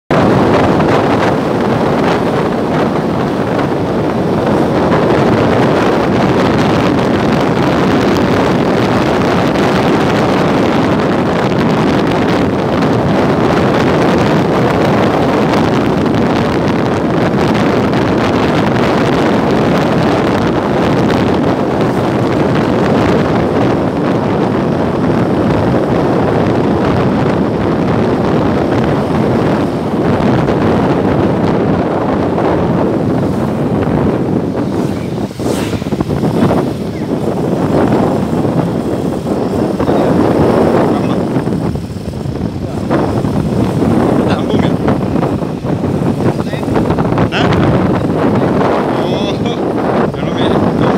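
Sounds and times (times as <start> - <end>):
road noise: 0.0 - 50.9
wind rushing over microphone: 0.0 - 50.9.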